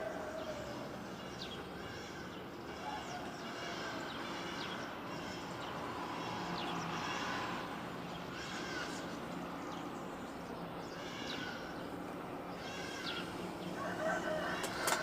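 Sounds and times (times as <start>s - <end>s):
birds chirping: 0.0s - 15.0s
outdoor background hiss: 0.0s - 15.0s.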